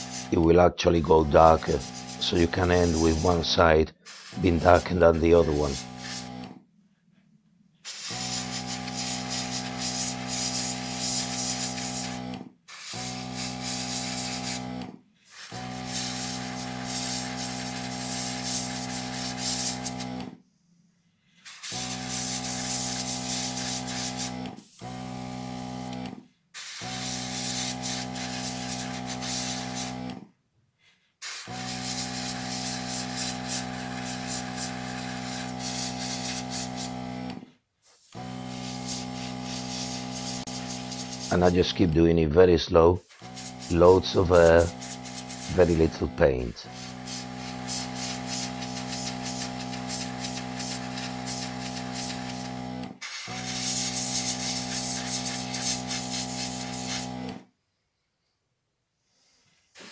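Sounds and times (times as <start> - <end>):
airbrush air hissing: 0.0 - 6.4, 7.8 - 20.2, 21.4 - 26.0, 26.6 - 30.1, 31.2 - 41.9, 43.0 - 57.3
compressor humming: 0.0 - 6.5, 8.0 - 14.8, 15.5 - 20.2, 21.6 - 26.0, 26.8 - 30.1, 31.4 - 37.4, 38.2 - 42.1, 42.9 - 57.3.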